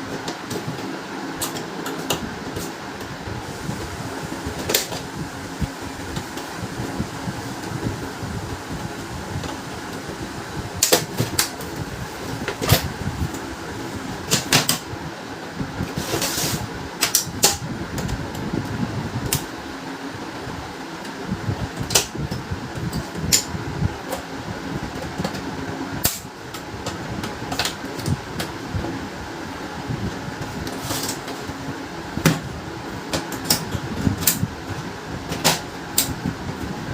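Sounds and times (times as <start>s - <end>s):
fan-like hum: 0.0s - 36.9s.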